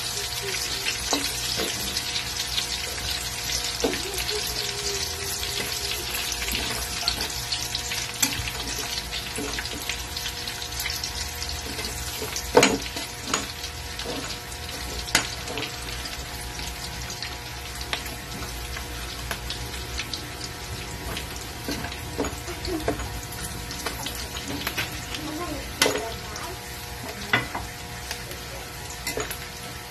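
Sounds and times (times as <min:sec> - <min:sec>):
onion sizzling in oil: 0:00.0 - 0:29.9.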